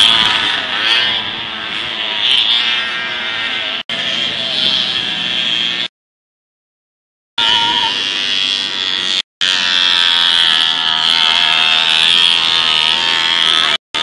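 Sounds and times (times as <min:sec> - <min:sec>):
moped engine revving: 0:00.0 - 0:05.9, 0:07.5 - 0:14.0.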